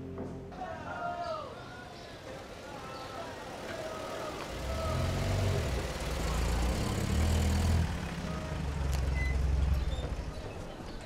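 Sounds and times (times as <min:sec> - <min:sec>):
truck engine droning: 0:01.4 - 0:11.0.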